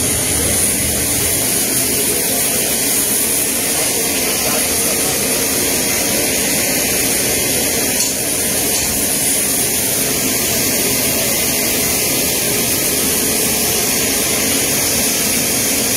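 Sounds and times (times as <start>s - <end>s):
jet engine roaring: 0.0s - 15.9s.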